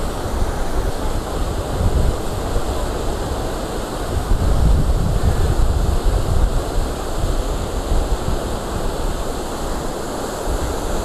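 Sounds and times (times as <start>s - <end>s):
floodwater rushing: 0.0s - 11.0s
wind buffeting microphone: 0.0s - 11.0s.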